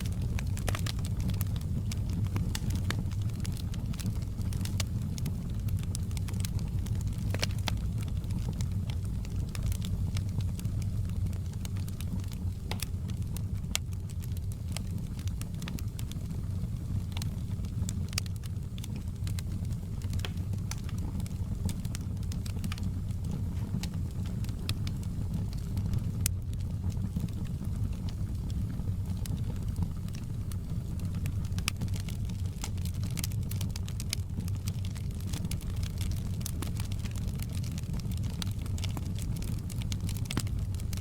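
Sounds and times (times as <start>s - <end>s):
fire crackling and popping: 0.0s - 41.0s
low rumble of flames: 0.0s - 41.0s.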